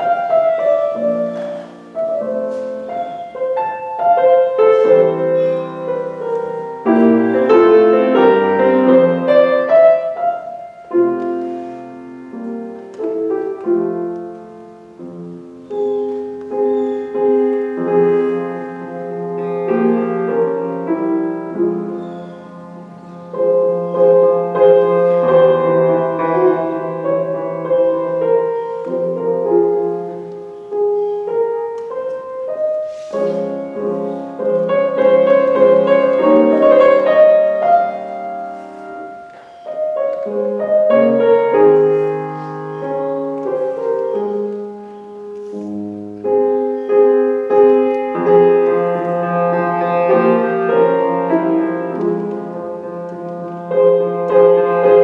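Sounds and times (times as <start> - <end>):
classical piano music: 0.0 - 55.0.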